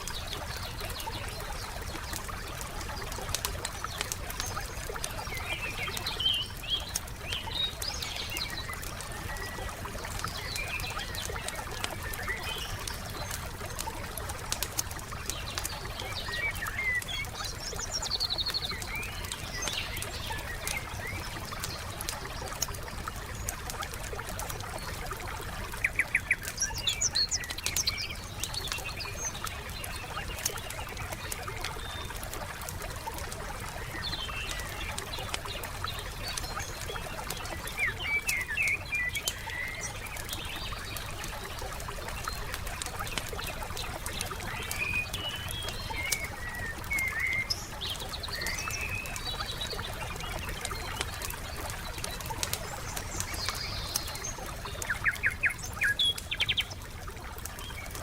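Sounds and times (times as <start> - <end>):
songbirds chirping: 0.0 - 58.0
wood fire crackling: 0.0 - 58.0.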